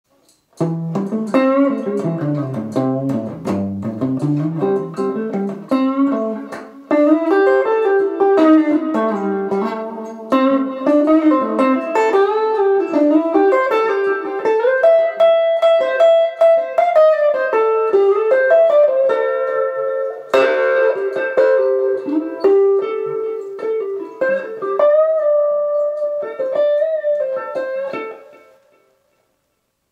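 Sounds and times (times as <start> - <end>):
electric guitar solo: 0.6 - 29.2.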